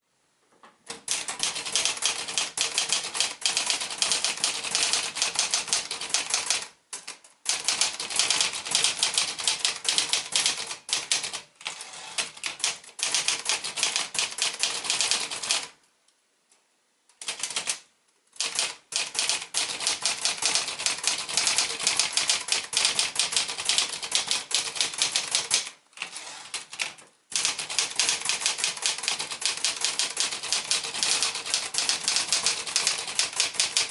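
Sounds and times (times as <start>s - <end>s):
manual typewriter typing: 0.9s - 15.8s, 17.2s - 17.8s, 18.4s - 33.9s.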